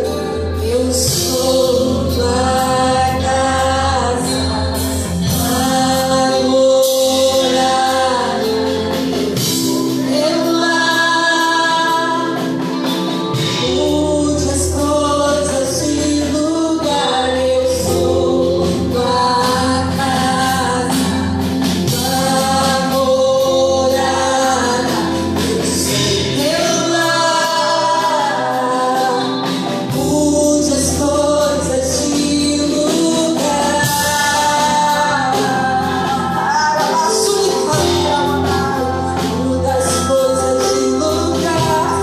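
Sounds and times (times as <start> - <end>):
band with bass: 0.0 - 42.0
voices singing a hymn: 0.0 - 42.0.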